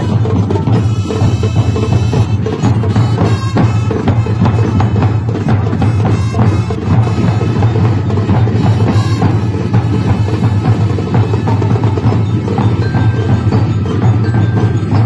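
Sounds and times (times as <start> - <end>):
deep bass drum beats: 0.0 - 15.0.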